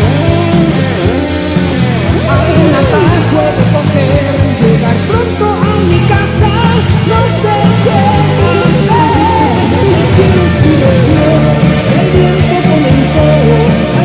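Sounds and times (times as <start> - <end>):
melodic lead guitar line: 0.0 - 14.0
rock song with electric guitars: 0.0 - 14.0.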